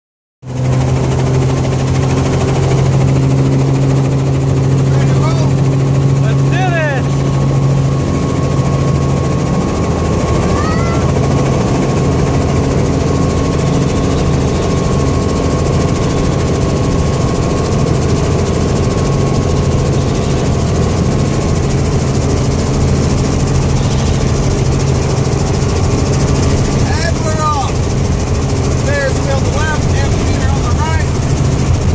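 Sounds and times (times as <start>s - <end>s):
helicopter engine and rotor drone: 0.4s - 31.9s.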